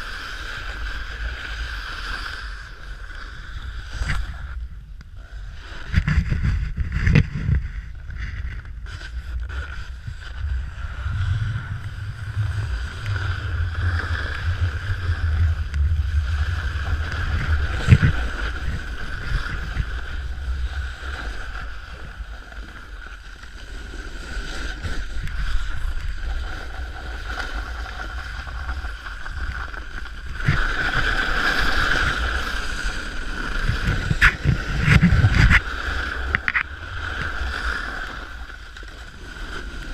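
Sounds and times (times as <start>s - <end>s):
snowboard scraping over snow: 0.0s - 39.9s
wind rumble on microphone: 0.0s - 39.9s.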